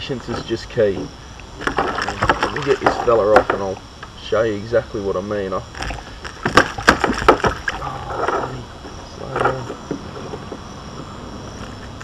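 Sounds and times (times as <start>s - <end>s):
sharp knocks and clicks: 0.2s - 4.2s, 5.7s - 12.0s.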